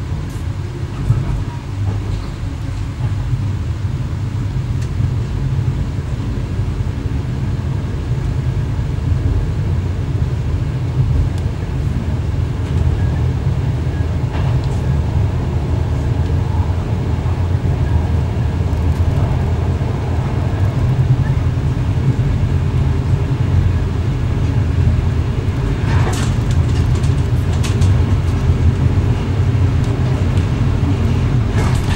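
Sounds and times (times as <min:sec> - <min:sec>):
train running rumble: 0:00.0 - 0:31.9.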